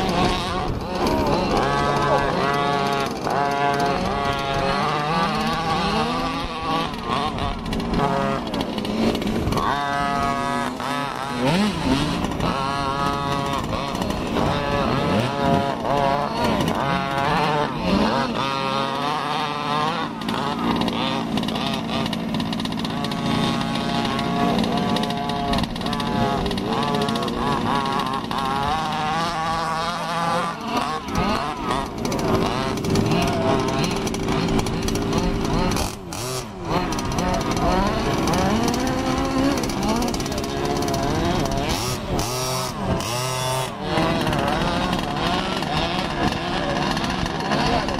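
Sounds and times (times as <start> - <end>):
small two-stroke engines revving: 0.0 - 47.9.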